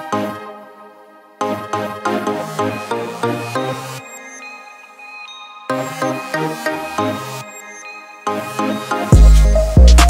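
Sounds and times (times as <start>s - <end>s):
background music with pulsing notes: 0.0s - 10.0s.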